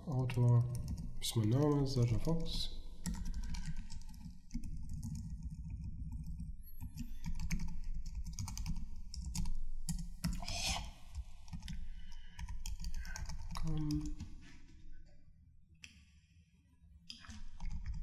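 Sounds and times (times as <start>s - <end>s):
keyboard typing: 0.2s - 14.3s, 17.1s - 18.0s.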